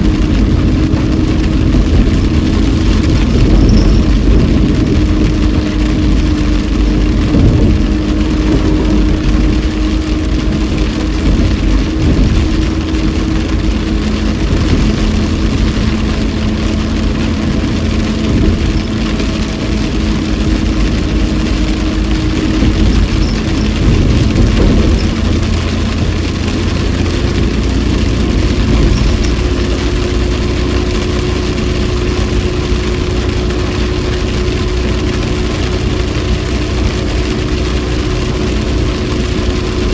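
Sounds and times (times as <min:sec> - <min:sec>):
car engine hum: 0:00.0 - 0:39.9
rain on a car: 0:00.0 - 0:39.9
tyres hissing on wet road: 0:00.0 - 0:39.9.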